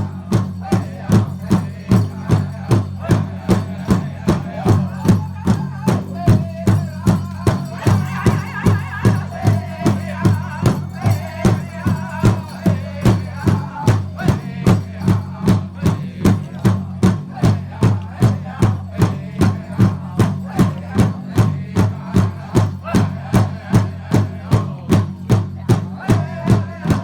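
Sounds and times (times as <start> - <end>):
big drum steady beat: 0.0 - 27.0
group of singers: 0.0 - 27.0.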